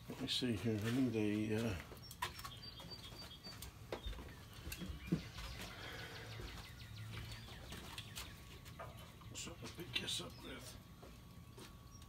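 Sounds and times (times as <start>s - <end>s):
low steady hum: 0.0s - 12.0s
small birds chirping: 0.2s - 12.0s.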